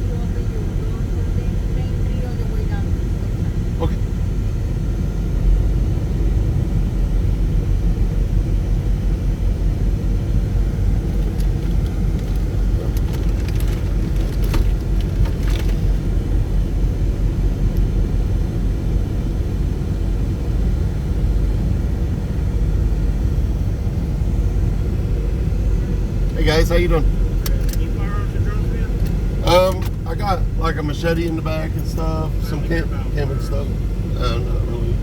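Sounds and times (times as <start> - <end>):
car engine rumble: 0.0 - 35.0
road noise: 0.0 - 35.0.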